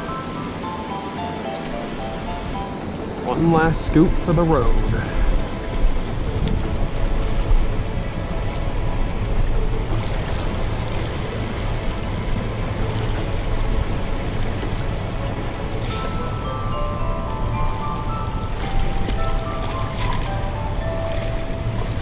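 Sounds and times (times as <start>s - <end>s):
music: 0.0s - 22.0s
water rushing below a dam: 0.0s - 22.0s.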